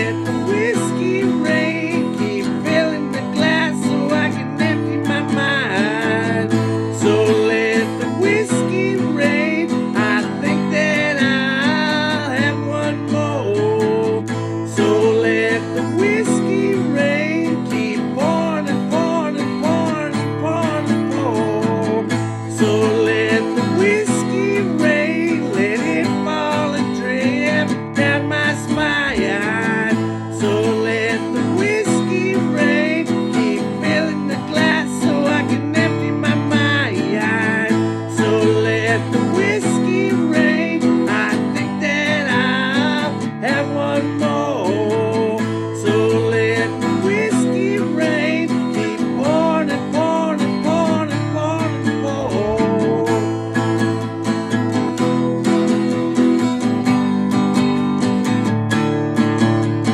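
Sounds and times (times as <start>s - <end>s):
acoustic guitar country music: 0.0s - 59.9s.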